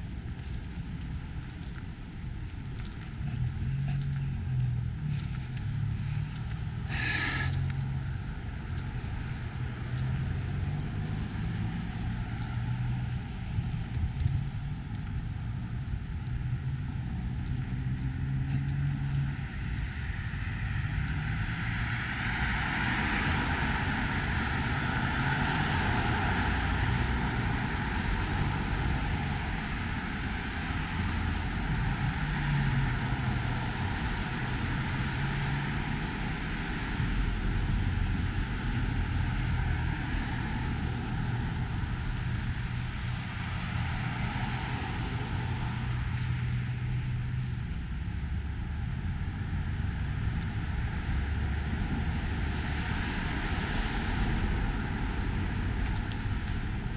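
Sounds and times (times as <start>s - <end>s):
cars passing by: 0.0s - 56.9s
low hum of engines: 0.0s - 56.9s.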